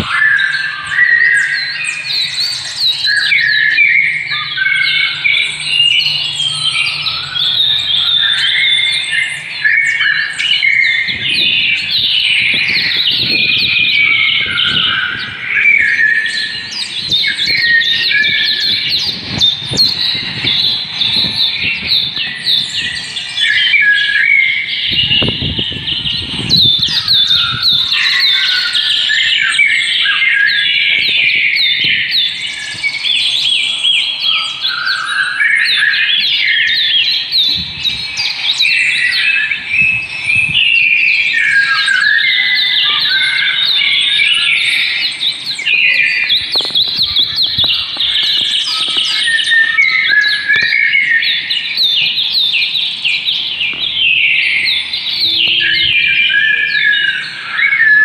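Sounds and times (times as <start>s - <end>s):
chorus of birds chirping: 0.0s - 58.0s.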